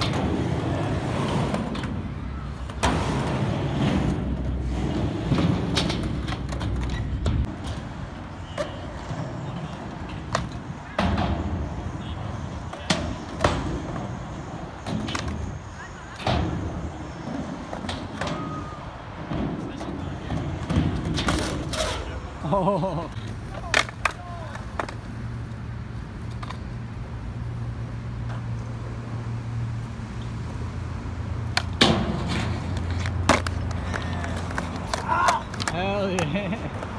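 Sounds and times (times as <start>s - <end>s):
skateboard clacks: 0.0s - 22.2s, 23.1s - 27.1s, 31.4s - 36.9s
skateboard wheels rolling on ramp: 0.0s - 36.9s.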